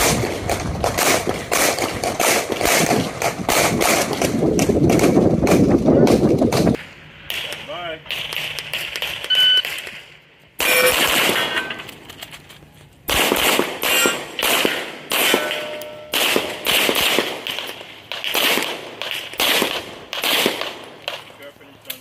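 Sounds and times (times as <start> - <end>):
pistol shots: 0.0 - 11.9, 13.1 - 21.3.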